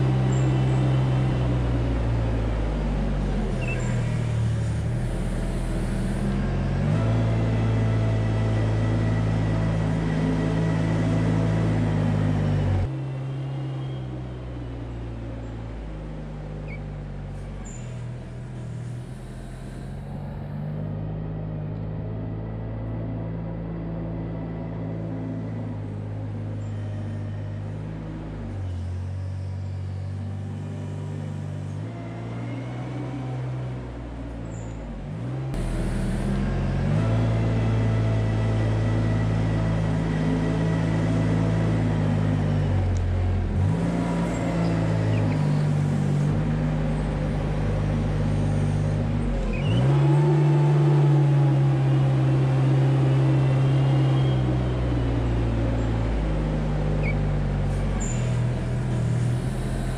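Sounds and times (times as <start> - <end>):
tractor diesel engine running: 0.0 - 12.9, 15.3 - 30.6, 34.8 - 50.2, 50.9 - 59.9.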